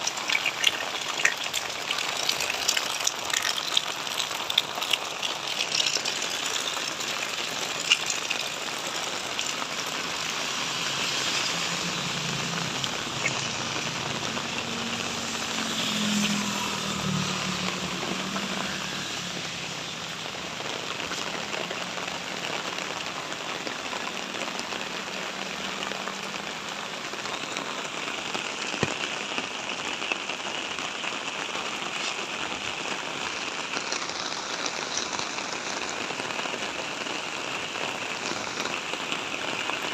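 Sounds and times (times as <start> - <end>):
sharp raindrop hits: 0.0 - 39.9
steady rain falling: 0.0 - 39.9.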